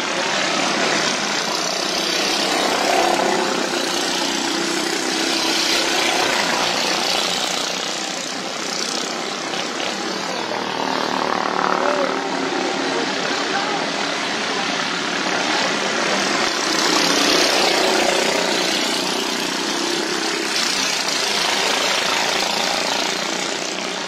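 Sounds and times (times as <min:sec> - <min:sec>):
racing lawn mower engines: 0:00.0 - 0:24.0.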